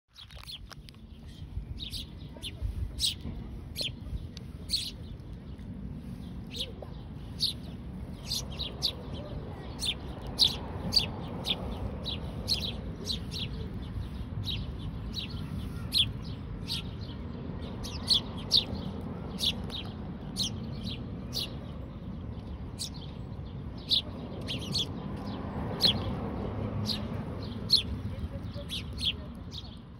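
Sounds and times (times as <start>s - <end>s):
sparrows chirping: 0.1s - 29.9s
fledglings begging calls: 0.2s - 29.9s.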